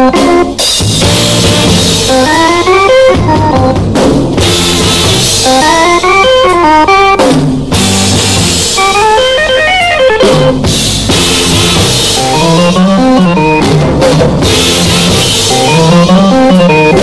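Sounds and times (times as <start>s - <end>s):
drum kit beat: 0.0s - 17.0s
guitar playing quick runs: 0.0s - 17.0s.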